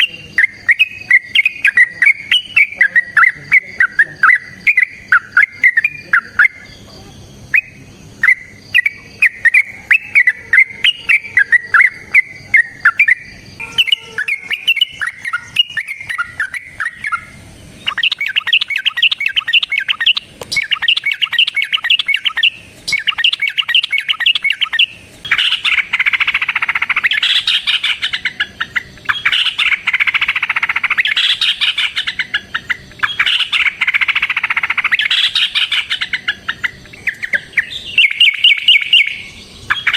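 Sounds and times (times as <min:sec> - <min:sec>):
birds chattering over one another: 0:00.0 - 0:39.9
bulbuls singing loudly: 0:00.0 - 0:39.9.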